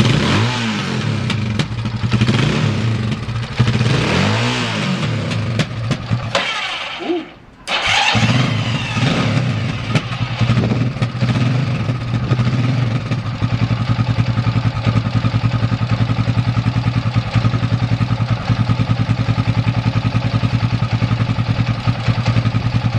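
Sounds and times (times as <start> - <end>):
motorcycle engine revving and idling: 0.0 - 22.9.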